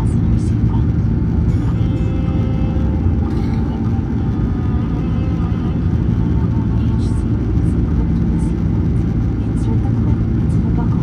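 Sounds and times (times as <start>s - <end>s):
faint engine whine: 0.0s - 11.0s
loud rumble of engines and airflow: 0.0s - 11.0s.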